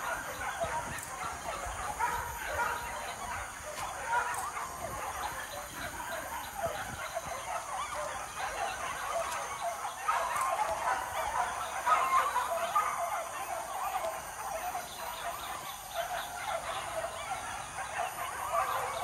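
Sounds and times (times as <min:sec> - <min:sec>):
pack of dogs yelping and barking: 0:00.0 - 0:19.0.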